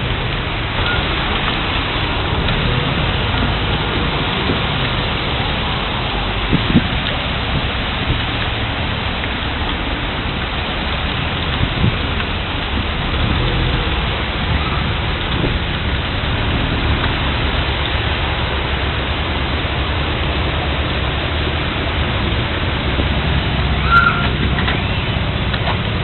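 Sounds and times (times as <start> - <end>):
heavy rain pouring: 0.0 - 26.0
wind rumbling: 0.0 - 26.0.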